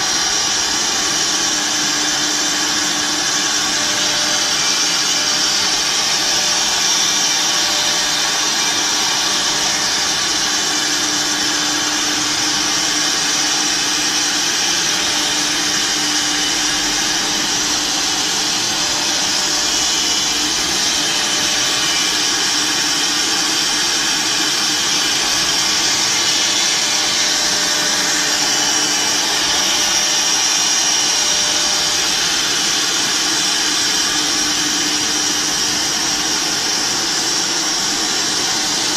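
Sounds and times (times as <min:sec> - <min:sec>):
cnc router spindles whining: 0:00.0 - 0:38.9
machining noise: 0:00.0 - 0:38.9.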